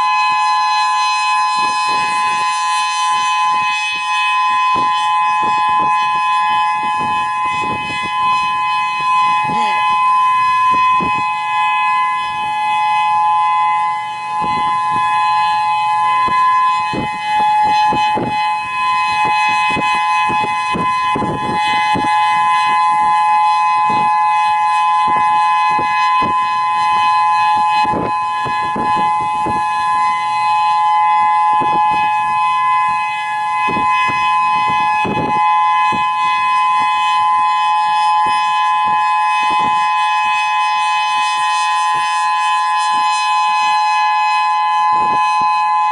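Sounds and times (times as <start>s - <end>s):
two-tone electronic warning siren: 0.0s - 45.9s
wind buffeting microphone: 0.0s - 45.9s.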